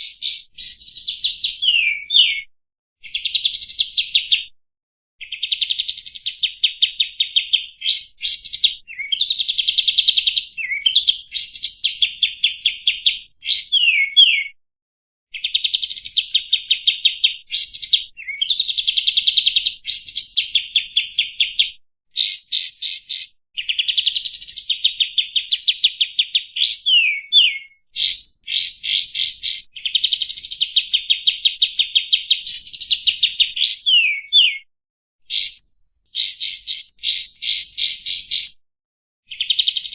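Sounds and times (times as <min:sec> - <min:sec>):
songbird singing fast trills: 0:00.0 - 0:04.5, 0:05.2 - 0:14.6, 0:15.3 - 0:38.6, 0:39.3 - 0:39.9.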